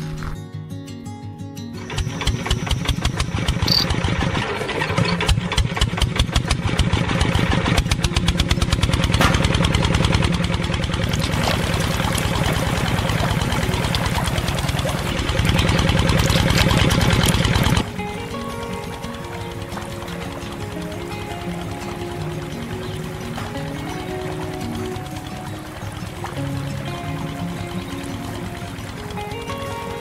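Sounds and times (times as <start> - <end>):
model diesel engine running: 1.8 - 30.0.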